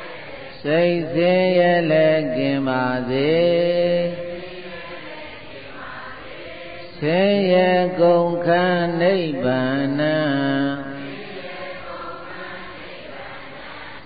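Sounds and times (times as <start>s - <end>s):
person chanting slow melody: 0.0s - 5.8s, 6.5s - 13.2s.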